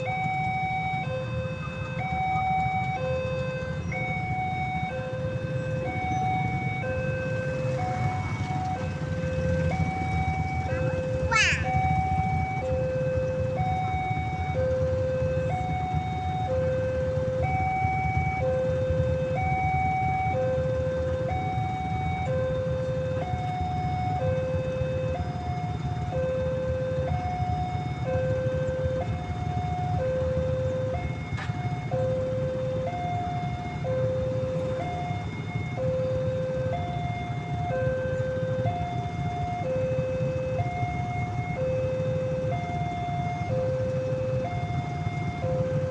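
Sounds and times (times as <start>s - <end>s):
level crossing two-tone siren: 0.0s - 45.9s
low rumble of engines: 0.0s - 45.9s.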